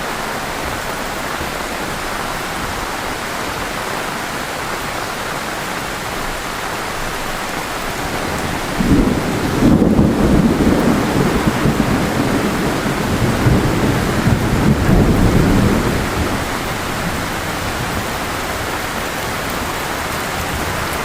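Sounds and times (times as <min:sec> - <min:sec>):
thunder rumbling: 0:00.0 - 0:18.9
heavy rain: 0:00.0 - 0:21.0.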